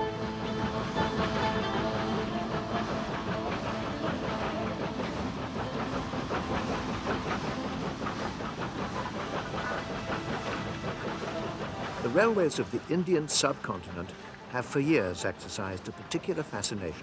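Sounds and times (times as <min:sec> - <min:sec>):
steam locomotive exhaust beats: 0:00.0 - 0:17.0
wheels clattering on rail: 0:00.0 - 0:17.0.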